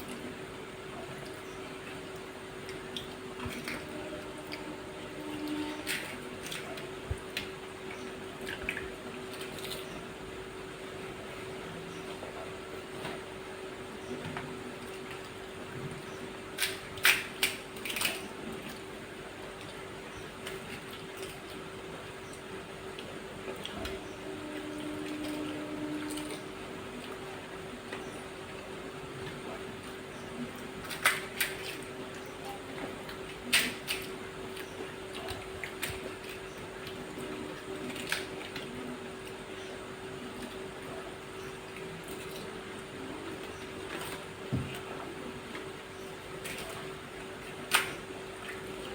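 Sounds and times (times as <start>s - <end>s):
steady background hum: 0.0s - 48.9s.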